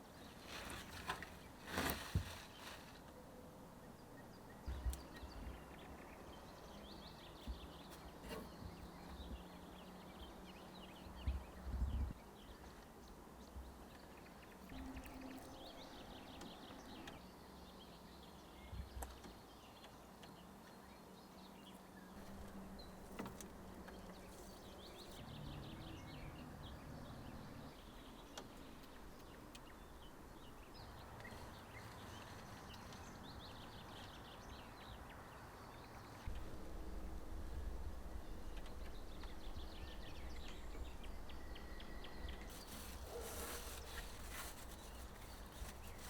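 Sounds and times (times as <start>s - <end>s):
faint birds chirping: 0.0s - 46.0s.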